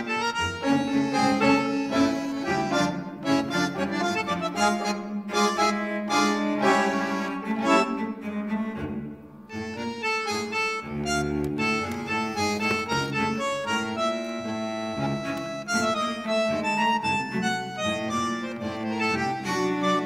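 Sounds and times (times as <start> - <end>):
instrumental melody: 0.0 - 20.0.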